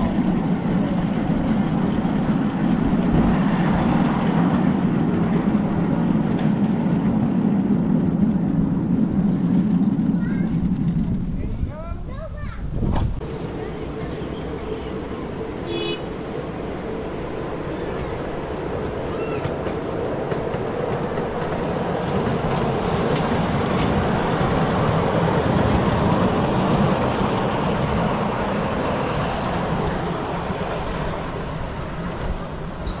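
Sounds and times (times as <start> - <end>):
miniature train rolling past: 0.0 - 12.5, 13.2 - 33.0.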